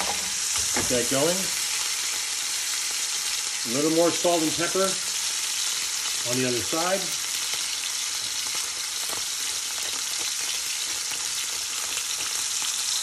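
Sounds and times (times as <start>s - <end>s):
fat crackling and popping: 0.0s - 3.9s, 4.8s - 13.0s
meat sizzling in a pan: 0.0s - 13.0s.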